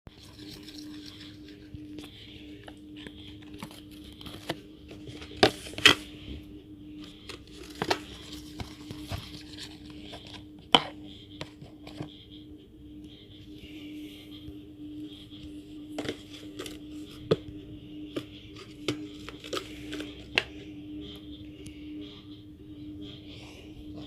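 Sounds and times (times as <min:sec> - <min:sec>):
steady low hum: 0:00.1 - 0:24.0.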